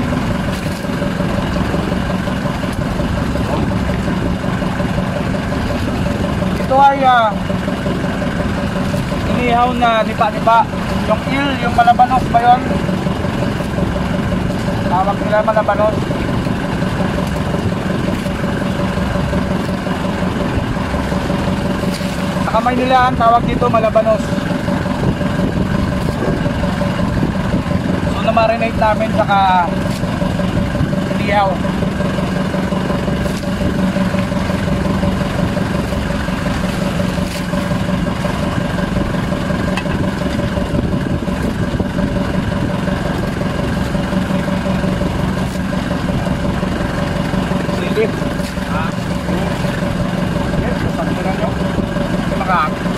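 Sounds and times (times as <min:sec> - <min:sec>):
boat engine humming: 0:00.0 - 0:52.9.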